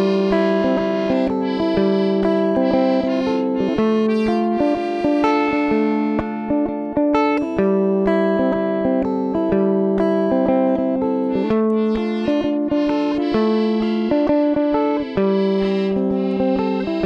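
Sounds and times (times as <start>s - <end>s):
plucked guitar picking: 0.0s - 17.0s.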